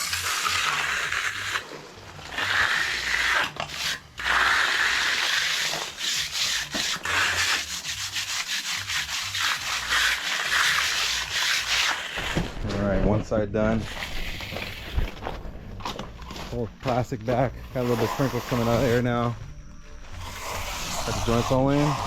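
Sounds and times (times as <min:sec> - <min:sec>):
tool scraping wet concrete: 0:00.0 - 0:12.7, 0:13.7 - 0:15.3, 0:16.2 - 0:19.3, 0:20.1 - 0:22.0.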